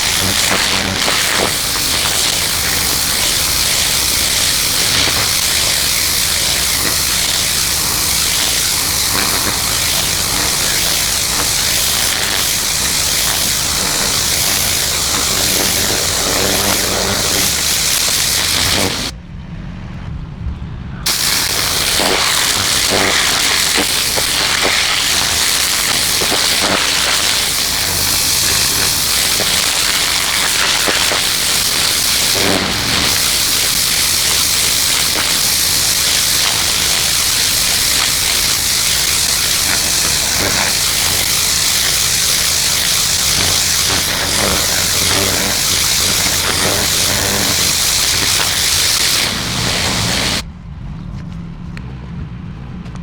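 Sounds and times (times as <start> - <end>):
pressure washer spray hissing: 0.0 - 19.1, 21.1 - 50.4.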